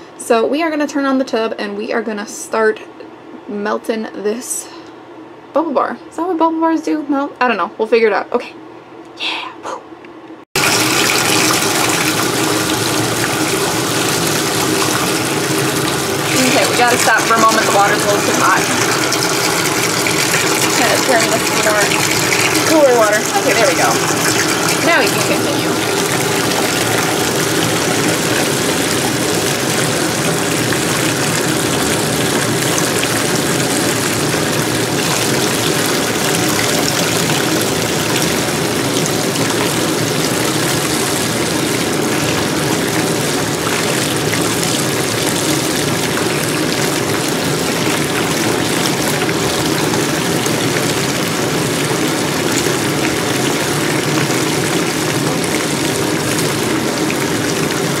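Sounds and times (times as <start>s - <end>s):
bathtub tap running: 10.6s - 58.0s.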